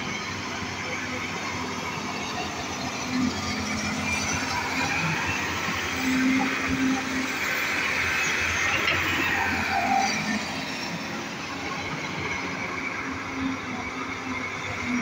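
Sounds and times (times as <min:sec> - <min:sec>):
excavator diesel engine and hydraulics: 0:00.0 - 0:15.0.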